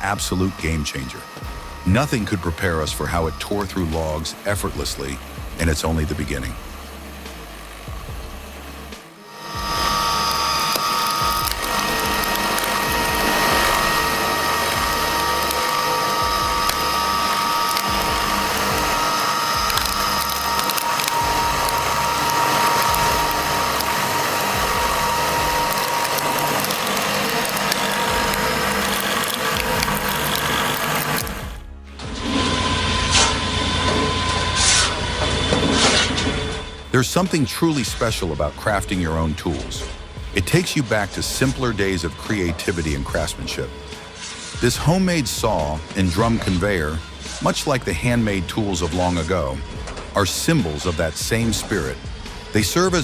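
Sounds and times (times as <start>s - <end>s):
different machine running: 0.0s - 53.0s
firewood machinery whining: 0.0s - 53.0s.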